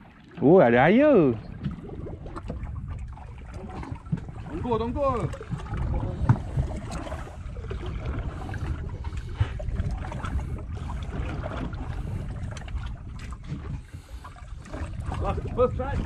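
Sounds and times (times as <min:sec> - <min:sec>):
water lapping against boat hull: 0:00.0 - 0:16.0
wind rumbling on microphone: 0:00.0 - 0:16.0.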